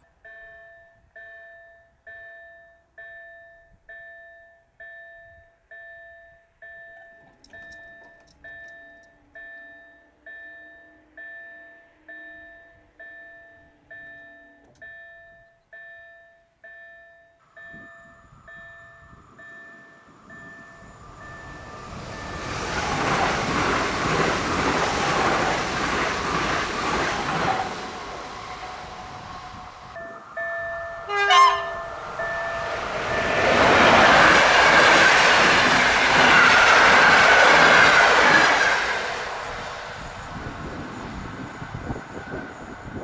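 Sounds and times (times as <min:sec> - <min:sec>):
level crossing warning bell: 0:00.0 - 0:26.6, 0:27.3 - 0:36.4
approaching train: 0:04.9 - 0:16.0, 0:16.7 - 0:43.0.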